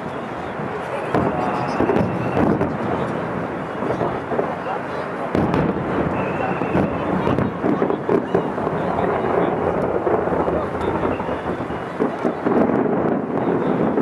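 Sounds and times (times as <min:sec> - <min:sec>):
rumble of fireworks booms: 0:00.0 - 0:14.0
sharp fireworks cracks: 0:00.0 - 0:14.0.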